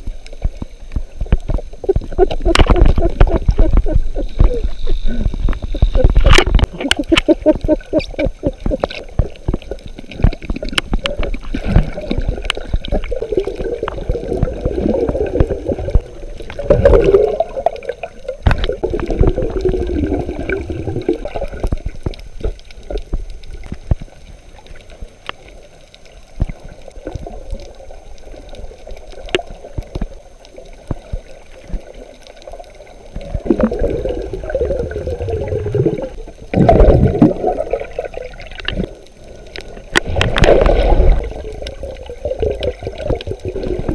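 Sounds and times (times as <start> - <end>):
clicks and crackles: 0.0 - 43.9
muffled underwater water sloshing: 0.0 - 43.9.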